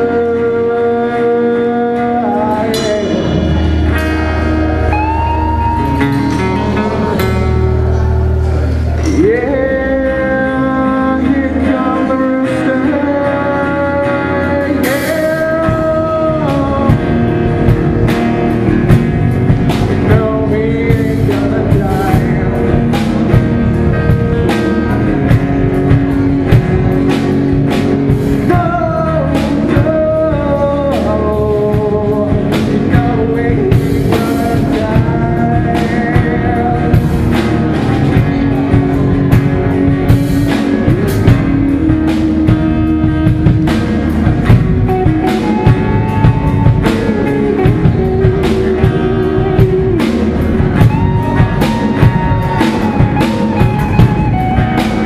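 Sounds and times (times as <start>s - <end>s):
man singing: 0.0s - 55.0s
rock band playing live: 0.0s - 55.0s
drum beat: 2.8s - 7.8s, 14.9s - 55.0s.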